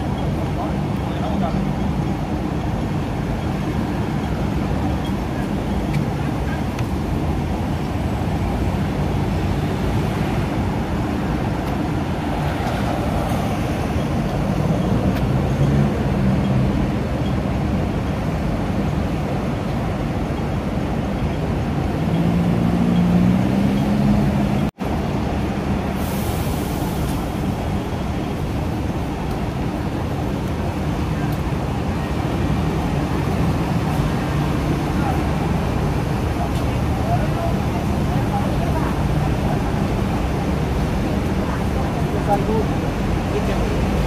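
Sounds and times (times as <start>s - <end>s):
vehicles passing: 0.0s - 44.0s.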